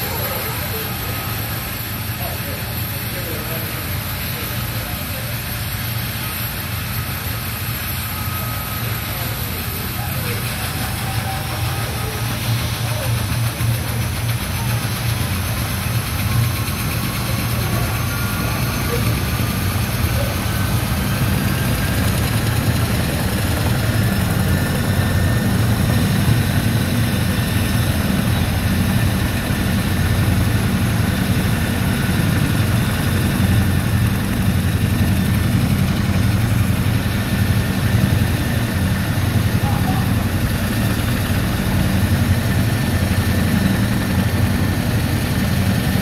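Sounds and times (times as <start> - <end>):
faint turbine whine: 0.0 - 46.0
helicopter rotor and engine drone: 0.0 - 46.0.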